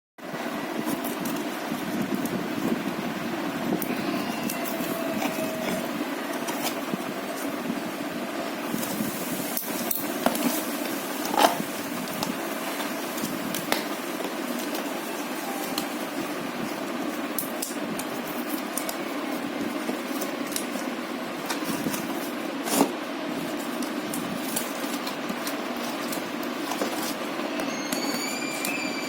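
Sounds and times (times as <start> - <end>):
steady fan hum: 0.2 - 29.0.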